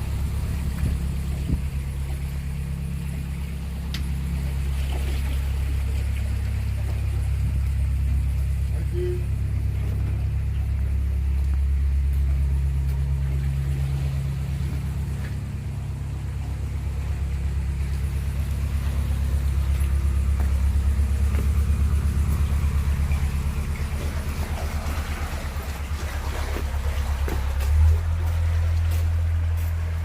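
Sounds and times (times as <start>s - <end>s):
diesel engine throbbing: 0.0s - 30.0s.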